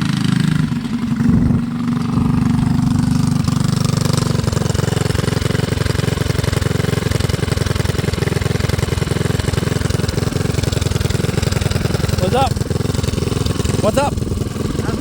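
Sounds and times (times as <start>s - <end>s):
small gas engine running: 0.0s - 15.0s.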